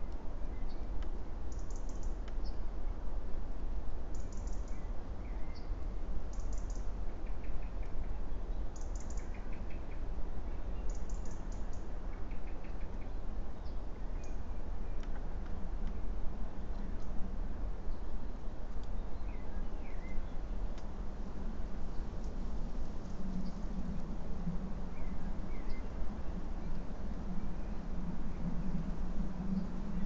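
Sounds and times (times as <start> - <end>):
low rumble and hiss: 0.0 - 30.0
songbirds singing: 4.1 - 16.0, 16.6 - 30.0.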